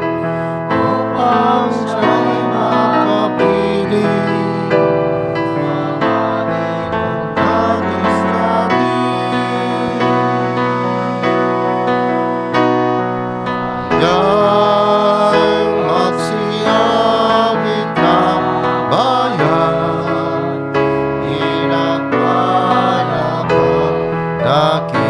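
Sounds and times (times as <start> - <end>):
held instrumental chords: 0.0 - 25.0
person singing a hymn: 0.0 - 25.0.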